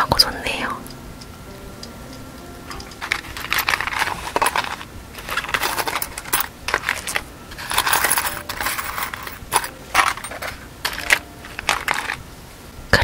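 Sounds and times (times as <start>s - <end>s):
earrings clinking and jingling: 1.8s - 12.2s.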